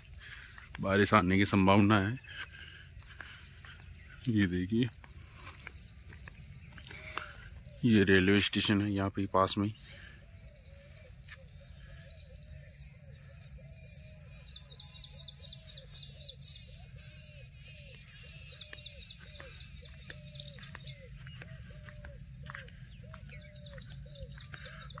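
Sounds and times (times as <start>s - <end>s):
lower arched bird call: 0.0s - 25.0s.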